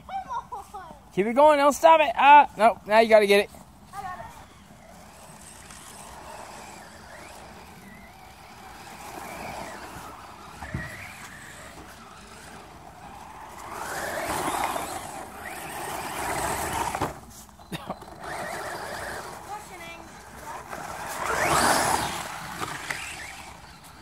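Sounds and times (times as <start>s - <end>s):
toy truck motor whine: 4.0s - 24.0s.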